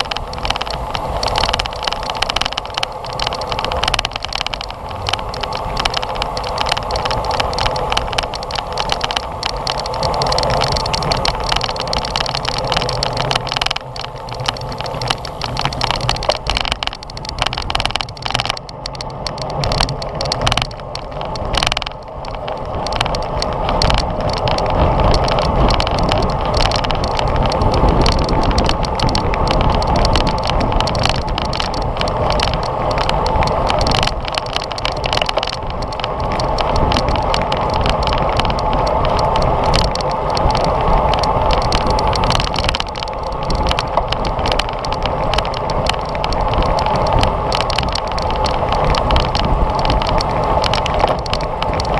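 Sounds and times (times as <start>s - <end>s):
tyre and road noise: 0.0s - 51.9s
wind on microphone: 0.0s - 51.9s.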